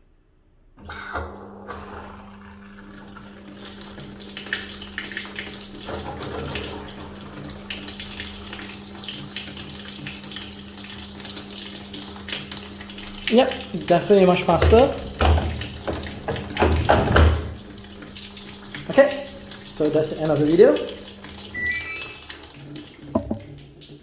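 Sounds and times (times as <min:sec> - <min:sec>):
water rushing into washing machine: 0:00.8 - 0:24.0.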